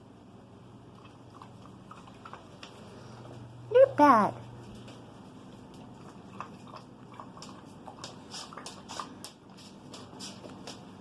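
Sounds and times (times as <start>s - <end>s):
wolf chewing wet paper: 0.8s - 3.5s, 4.6s - 11.0s.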